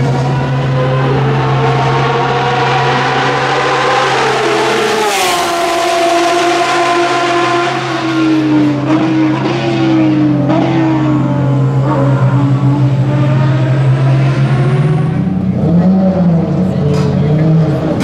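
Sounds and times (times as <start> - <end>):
race car passing at speed: 0.0 - 18.0.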